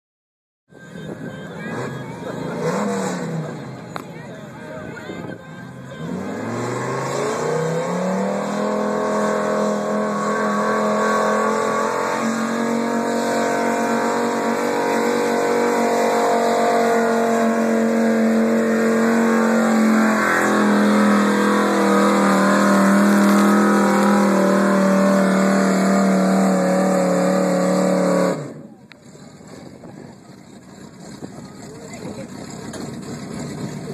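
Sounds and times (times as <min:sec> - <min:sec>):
truck engine at full throttle: 0:00.9 - 0:33.9.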